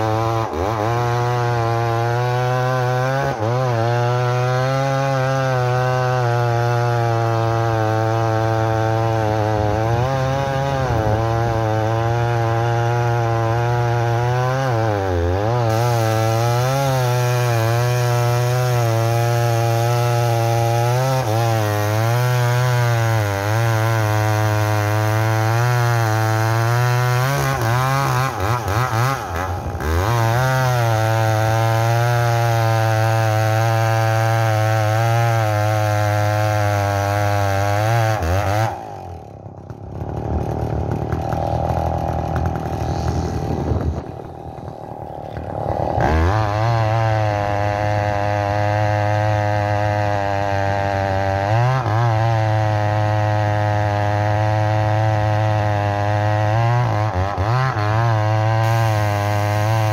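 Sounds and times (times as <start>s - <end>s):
chainsaw cutting log: 0.0s - 59.9s
chainsaw idling: 0.0s - 59.9s.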